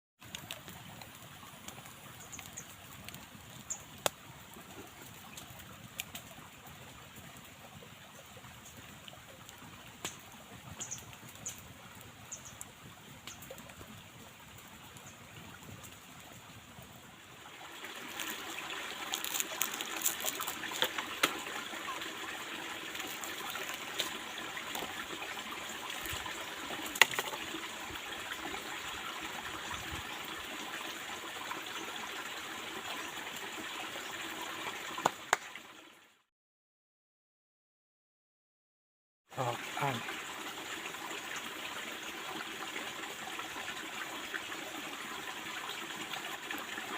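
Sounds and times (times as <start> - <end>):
forest stream babbling: 0.2 - 36.0, 39.3 - 46.9.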